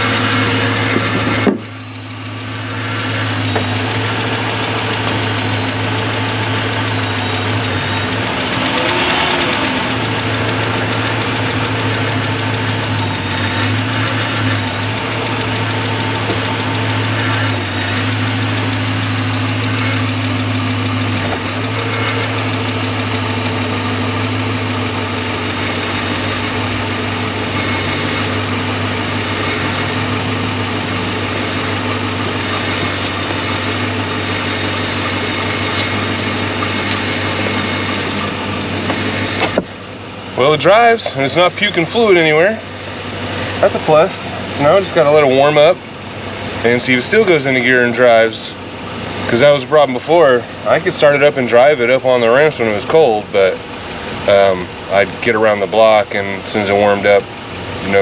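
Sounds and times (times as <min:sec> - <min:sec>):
car engine idling: 0:00.0 - 0:58.0
loose tailpipes rattling: 0:00.0 - 0:58.0.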